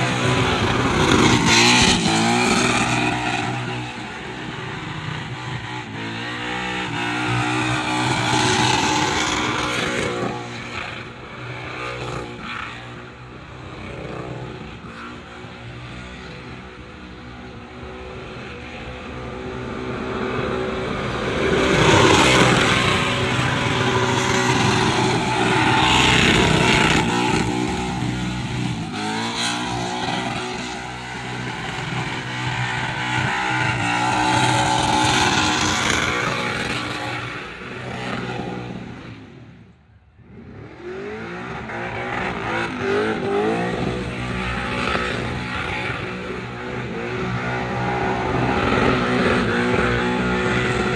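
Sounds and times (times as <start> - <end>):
car engine at high revs: 0.0 - 50.9.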